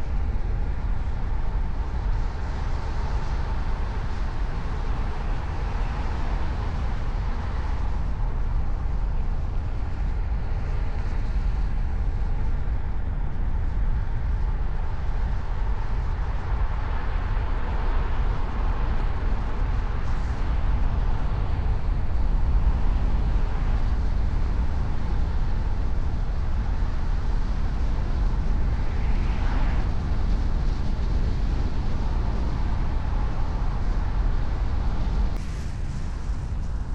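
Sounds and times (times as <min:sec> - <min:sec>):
car road noise rumble: 0:00.0 - 0:36.9.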